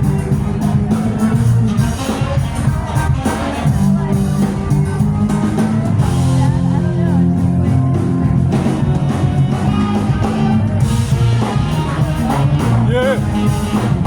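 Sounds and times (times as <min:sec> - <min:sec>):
bass guitar: 0:00.0 - 0:14.0
drum kit: 0:00.0 - 0:14.0
electric guitar: 0:00.0 - 0:14.0.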